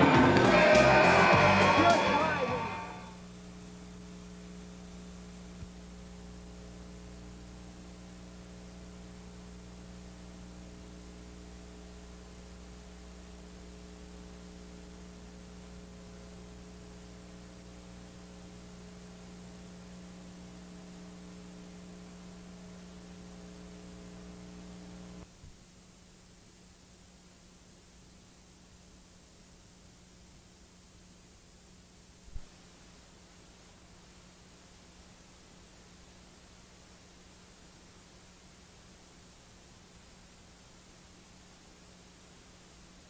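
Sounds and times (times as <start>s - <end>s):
electrical mains hum with hiss: 0.0s - 43.0s.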